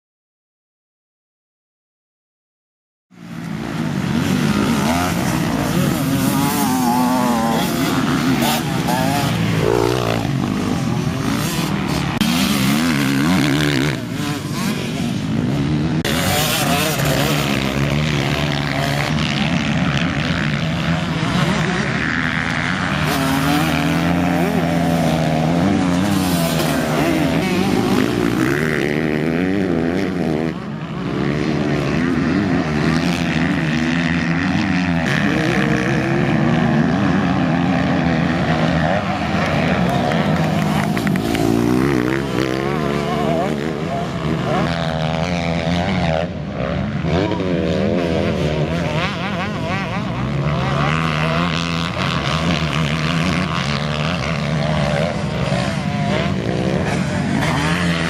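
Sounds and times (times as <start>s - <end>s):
motocross bike engines revving: 3.2s - 58.0s.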